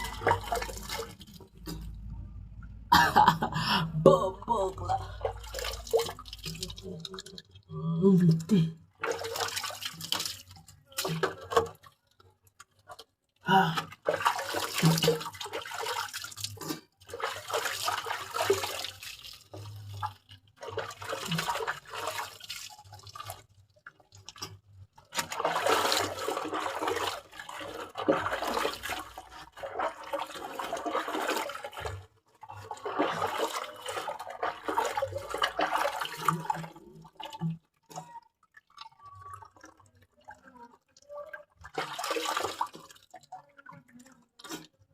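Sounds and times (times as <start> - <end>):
water splashing and pouring: 0.0 - 2.2, 4.8 - 7.7, 8.3 - 44.9.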